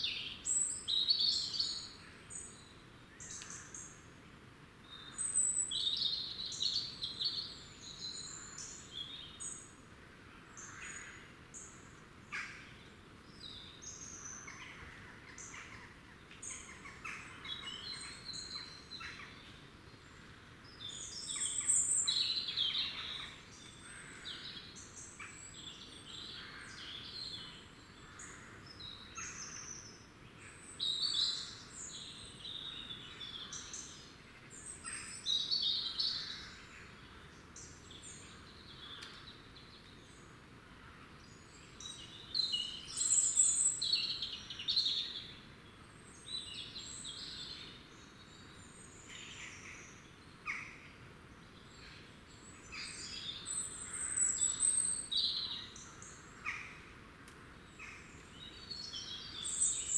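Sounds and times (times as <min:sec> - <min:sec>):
faint background hiss: 0:00.0 - 0:59.9
small birds chirping: 0:10.6 - 0:40.5, 0:41.2 - 0:59.9.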